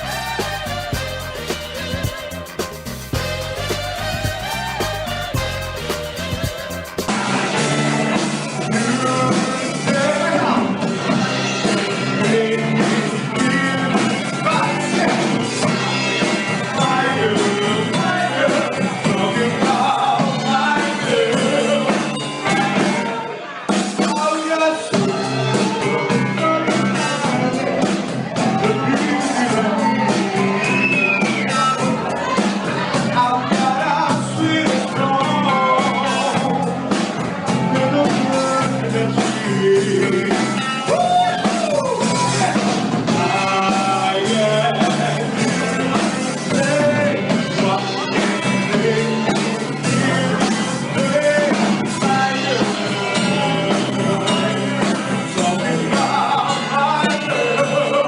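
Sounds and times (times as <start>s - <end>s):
live soul band playing: 0.0s - 58.0s
person singing: 0.0s - 58.0s.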